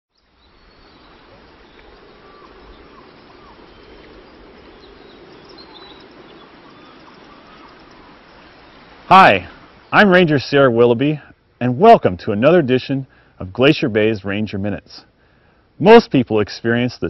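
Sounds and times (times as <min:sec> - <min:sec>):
steady background hiss: 0:00.2 - 0:17.0.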